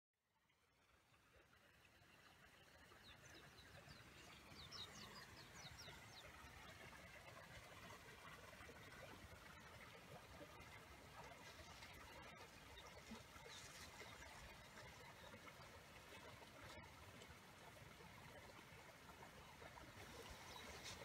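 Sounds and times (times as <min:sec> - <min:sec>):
faint outdoor ambience: 0:00.5 - 0:21.0.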